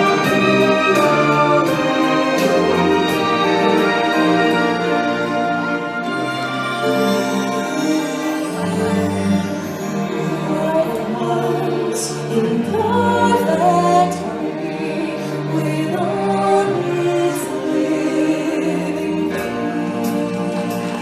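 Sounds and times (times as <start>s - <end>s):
stage show accompaniment: 0.0s - 21.0s.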